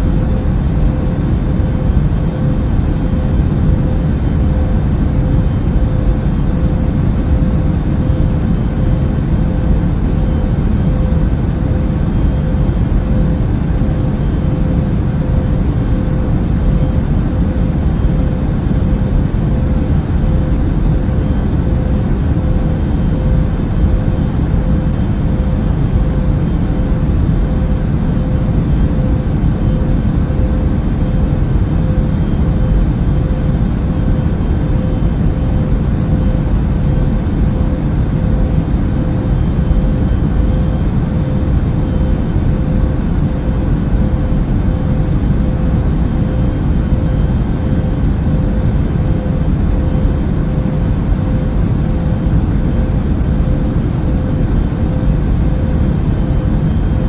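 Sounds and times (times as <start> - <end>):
deep rumble of engines and airflow: 0.0 - 57.0
faint constant hum: 0.0 - 57.0.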